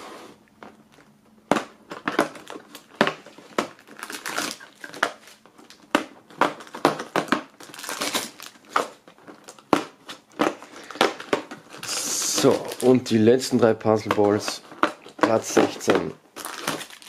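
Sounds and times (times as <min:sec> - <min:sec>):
plastic wrapper crinkling: 0:00.9 - 0:17.0.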